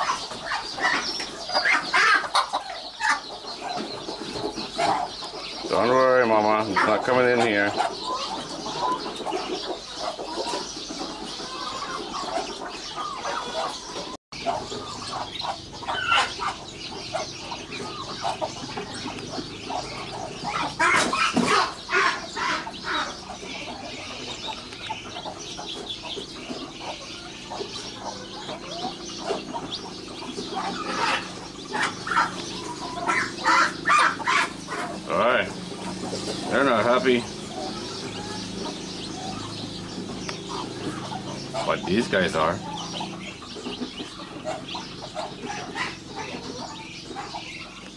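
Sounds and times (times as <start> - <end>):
chicks peeping: 0.0 - 47.9
hen clucking: 0.0 - 47.9.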